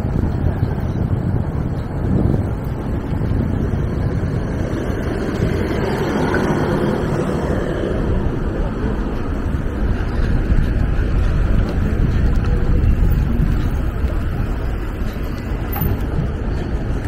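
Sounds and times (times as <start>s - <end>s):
passing car traffic: 0.0s - 17.0s
wind rushing over microphone: 0.0s - 17.0s.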